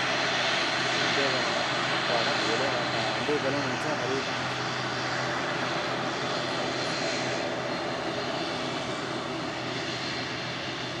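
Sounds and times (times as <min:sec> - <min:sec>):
airliner engines running: 0:00.0 - 0:11.0.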